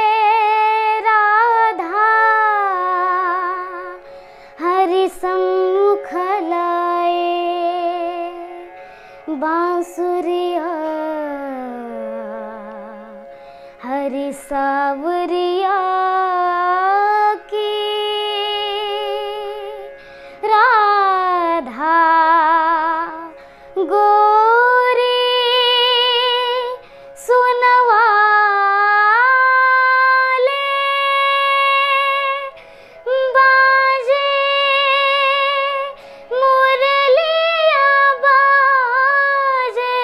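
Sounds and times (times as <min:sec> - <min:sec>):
girl singing devotional song: 0:00.0 - 0:40.0.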